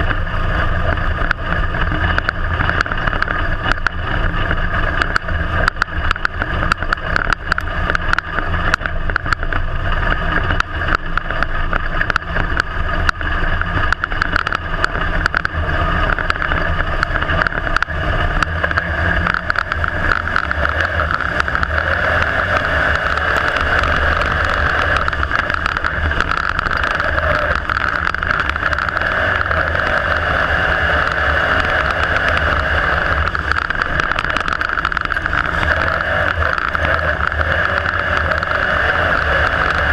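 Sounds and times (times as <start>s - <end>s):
race car engine running hard: 0.0s - 39.9s
sharp clicks and knocks: 0.0s - 39.9s.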